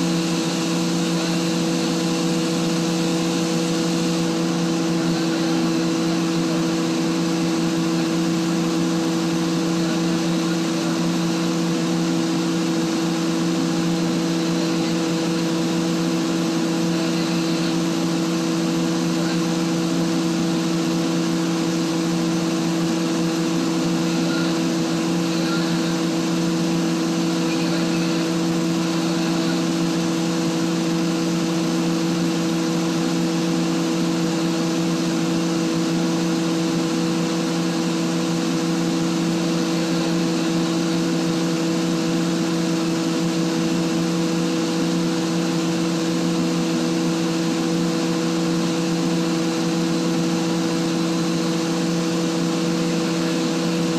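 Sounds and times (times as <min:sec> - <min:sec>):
air compressor humming: 0:00.0 - 0:53.9.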